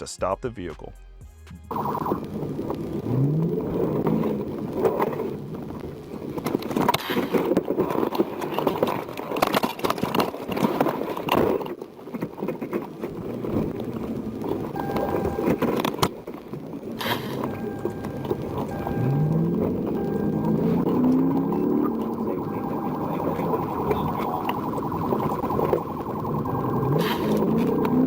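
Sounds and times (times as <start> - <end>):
road noise: 1.6 - 28.0
car engine: 1.7 - 28.0
rumbling buffeting: 1.7 - 28.0.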